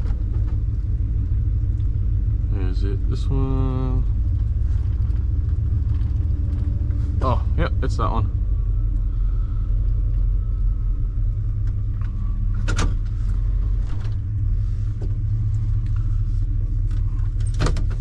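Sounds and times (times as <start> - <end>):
vehicle rumble inside cab: 0.0 - 18.0.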